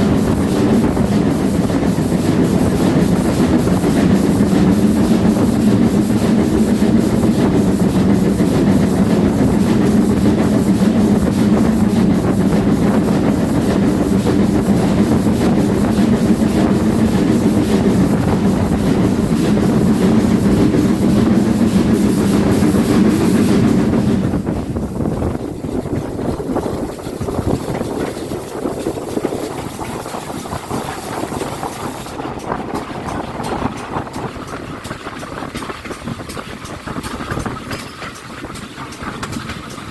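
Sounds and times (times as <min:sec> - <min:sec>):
train rumbling on rails: 0:00.0 - 0:39.9
wheels clickety-clack: 0:00.0 - 0:39.9.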